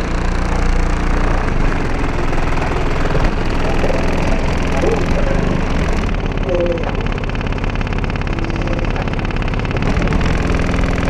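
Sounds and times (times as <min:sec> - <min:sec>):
deep bass with buzzing pulse: 0:00.0 - 0:11.0.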